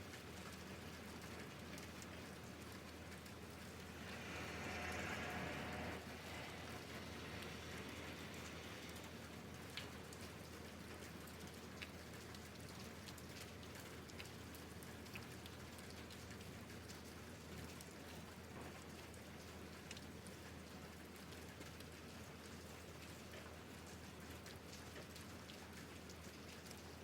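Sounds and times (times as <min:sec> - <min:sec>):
light rain falling: 0:00.0 - 0:27.0.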